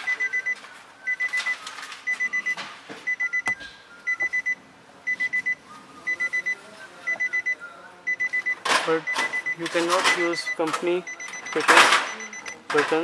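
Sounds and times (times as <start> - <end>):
warning chime beeping: 0.0 - 13.0.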